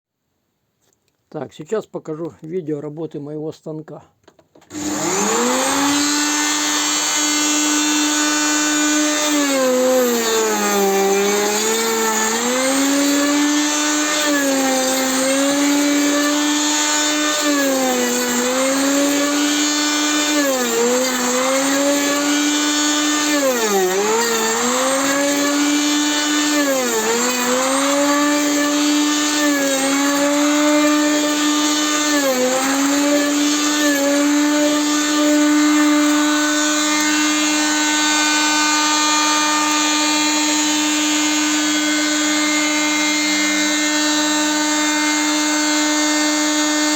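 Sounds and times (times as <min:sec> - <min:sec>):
router motor whining: 0:04.6 - 0:46.9.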